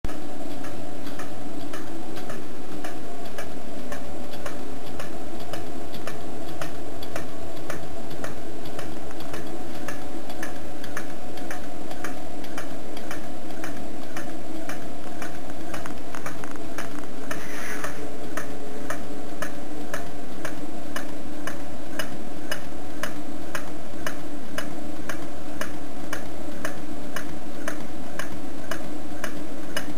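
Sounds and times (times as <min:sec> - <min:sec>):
steady hum: 0:00.1 - 0:29.9.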